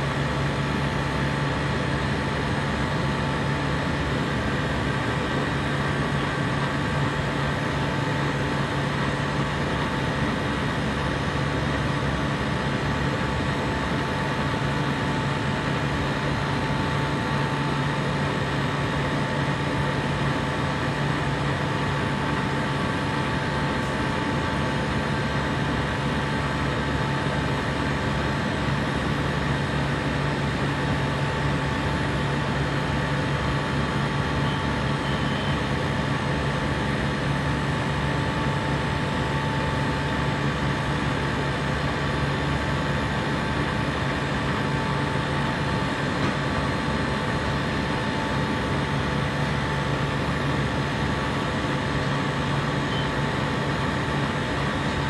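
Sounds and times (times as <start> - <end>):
compressor humming: 0.0 - 55.0.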